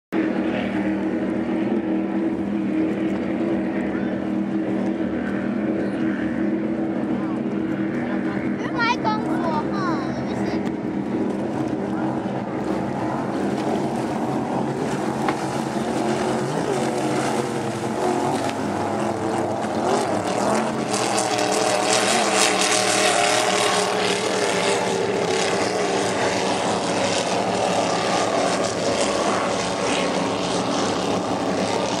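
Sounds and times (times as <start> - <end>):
powerboat engines droning: 0.2 - 32.0.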